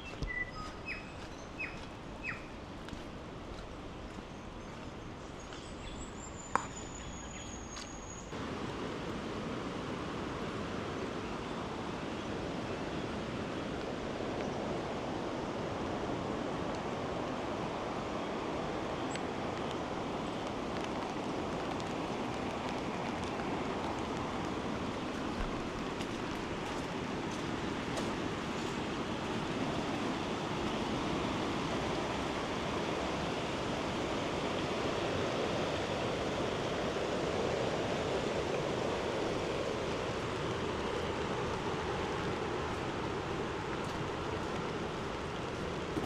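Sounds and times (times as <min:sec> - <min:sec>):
rushing flood water: 0:08.3 - 0:46.0.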